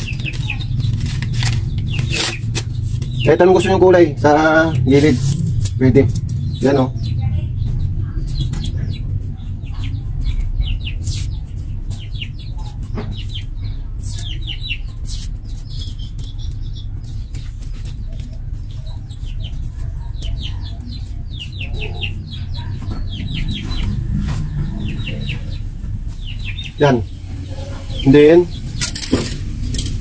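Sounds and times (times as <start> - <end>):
low rumble: 0.0 - 14.9, 18.0 - 30.0
birds chirping: 0.0 - 30.0
chickens clucking: 0.0 - 30.0.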